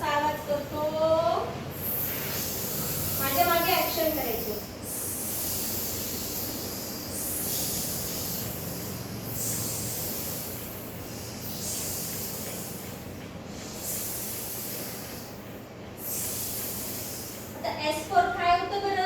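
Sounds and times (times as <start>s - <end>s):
person making hissing sound: 1.7s - 18.0s.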